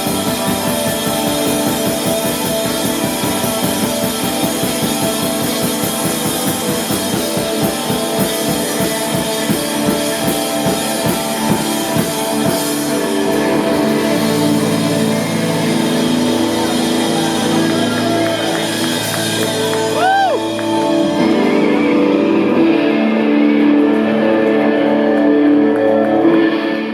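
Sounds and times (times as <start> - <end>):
drums: 0.0 - 26.9
electric guitar chords: 0.0 - 26.9.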